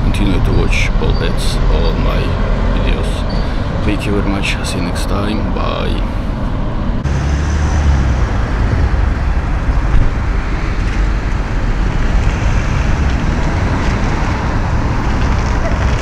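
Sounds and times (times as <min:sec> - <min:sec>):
road traffic rumble and hiss: 0:00.0 - 0:16.0.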